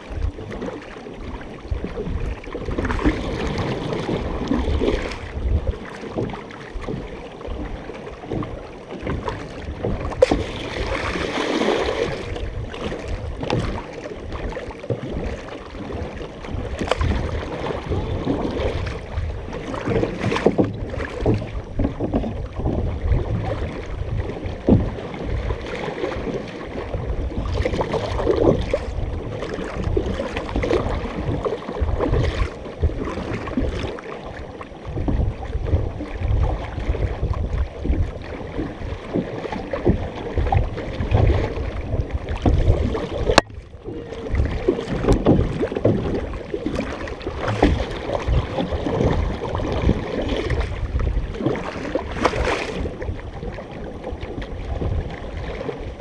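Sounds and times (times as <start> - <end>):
paddle strokes splashing in water: 0.0 - 56.0
water rushing along hull: 0.0 - 56.0
wind rumble on microphone: 0.0 - 56.0.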